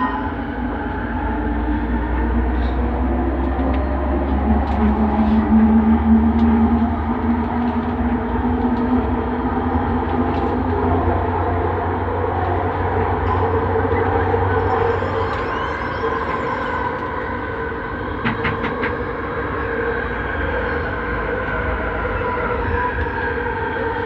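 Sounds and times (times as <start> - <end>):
train rumbling at speed: 0.0 - 24.0.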